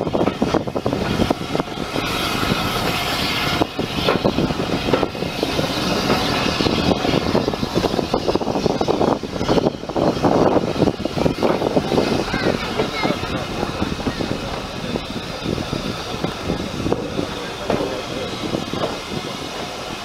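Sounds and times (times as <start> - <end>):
hiss: 0.0 - 20.0
train wheels clattering on rail: 0.0 - 20.0.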